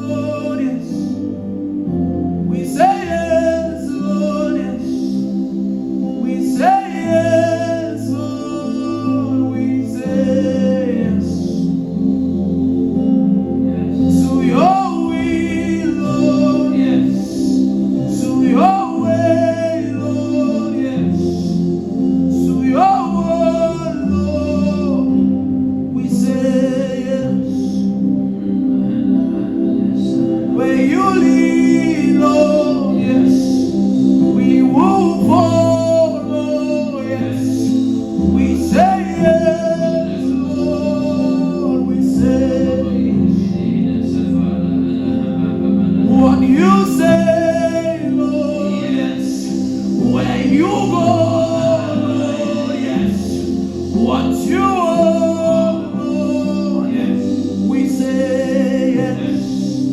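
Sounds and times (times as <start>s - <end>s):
gospel worship song: 0.0s - 59.9s.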